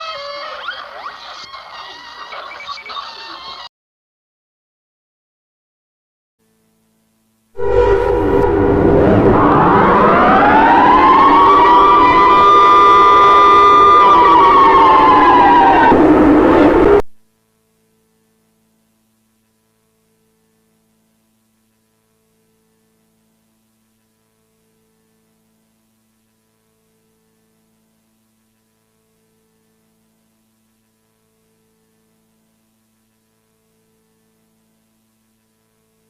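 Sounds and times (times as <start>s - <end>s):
faint electronic hum: 6.4s - 36.0s.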